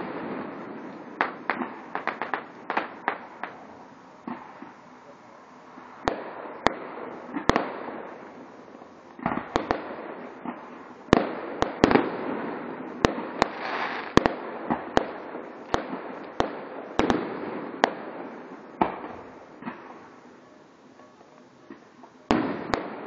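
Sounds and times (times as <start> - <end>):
crackling rumble: 0.0 - 23.0
fireworks bursting with sharp bangs: 0.0 - 23.0.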